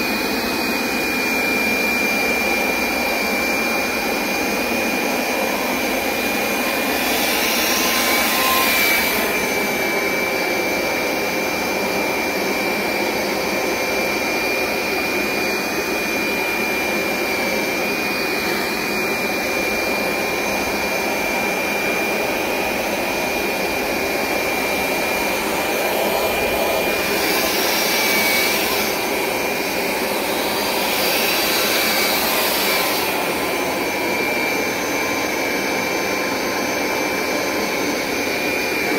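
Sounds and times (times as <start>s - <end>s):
carpet cleaner running: 0.0s - 38.9s.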